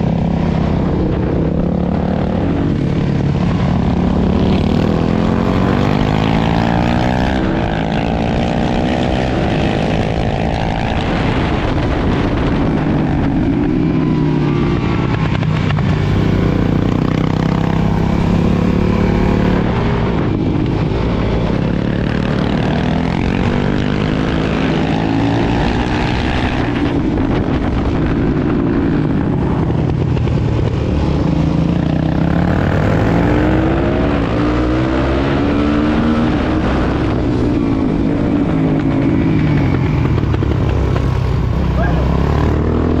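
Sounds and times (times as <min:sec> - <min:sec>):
motorcycle engine revving: 0:00.0 - 0:43.0
wind noise: 0:00.0 - 0:43.0.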